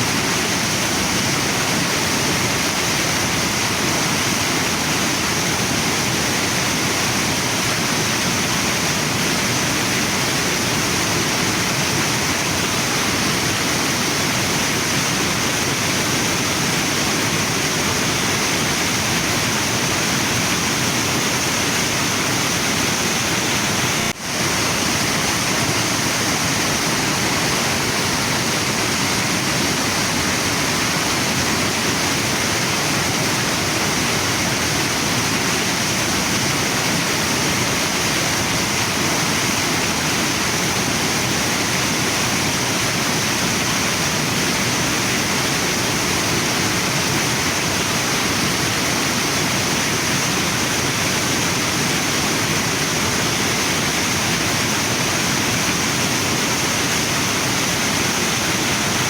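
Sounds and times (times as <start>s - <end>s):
waterfall and river rushing: 0.0s - 59.0s.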